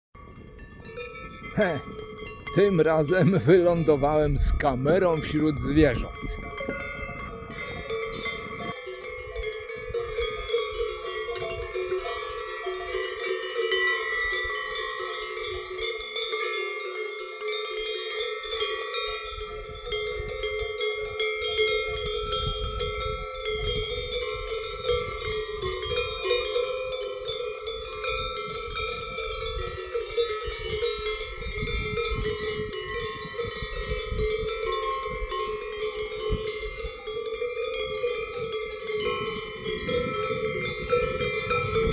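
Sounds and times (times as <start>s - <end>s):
cowbells clanking: 0.2s - 41.9s.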